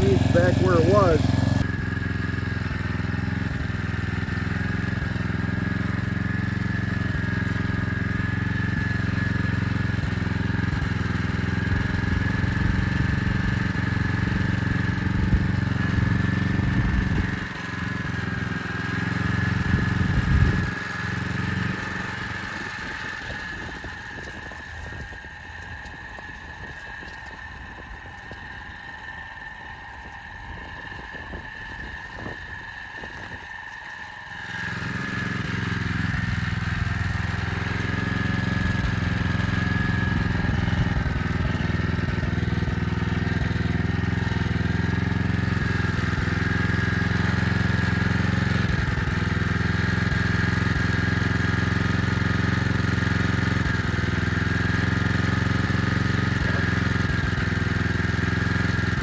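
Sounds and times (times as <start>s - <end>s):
portable generator running: 0.0s - 59.0s.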